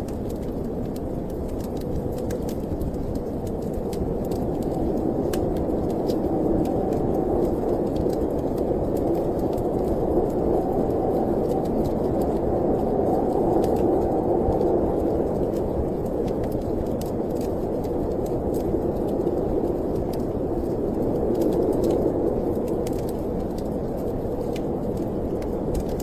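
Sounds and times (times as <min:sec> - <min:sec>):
storm wind rushing: 0:00.0 - 0:26.0
wood fire crackling: 0:00.0 - 0:26.0.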